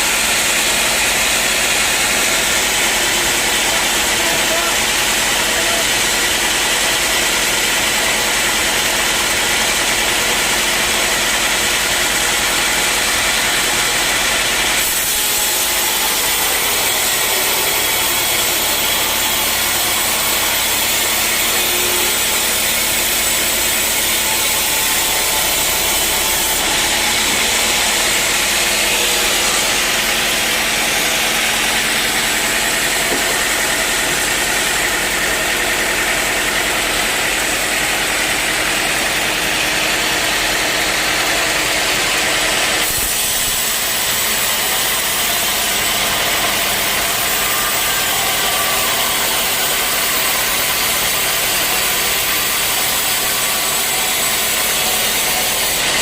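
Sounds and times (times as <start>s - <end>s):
sawmill sawing wood: 0.0s - 56.0s.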